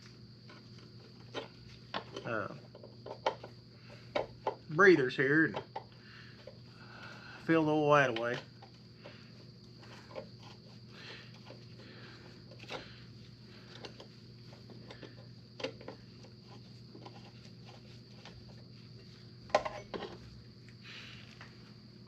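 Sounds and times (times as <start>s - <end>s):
objects being handled: 0.0s - 4.8s, 8.0s - 21.6s
steady low hum: 0.0s - 22.0s.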